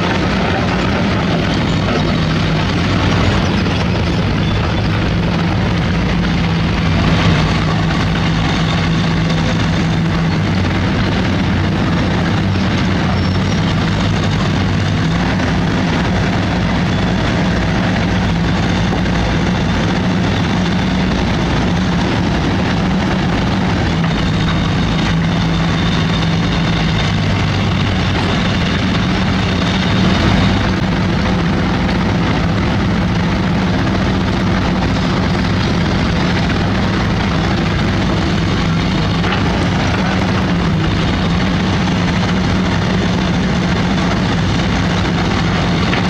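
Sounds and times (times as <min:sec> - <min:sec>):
heavy machinery diesel engine running: 0:00.0 - 0:46.0.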